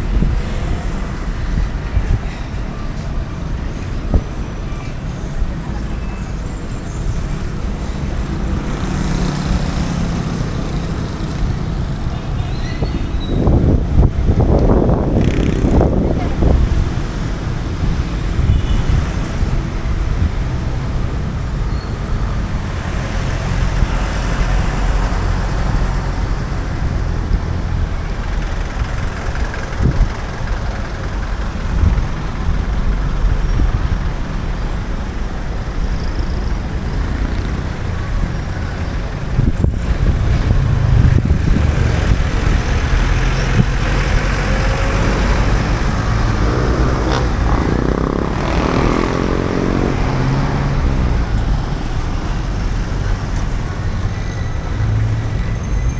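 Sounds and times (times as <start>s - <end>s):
road noise: 0.0s - 55.9s
vehicle engines passing: 0.0s - 55.9s.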